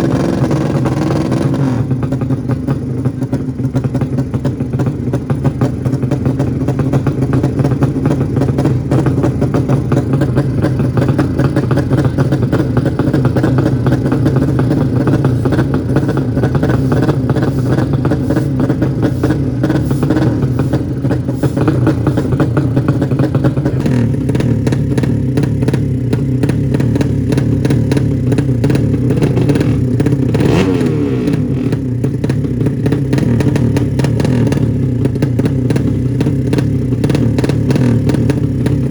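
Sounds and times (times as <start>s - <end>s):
motorbike engine running: 0.0s - 38.9s.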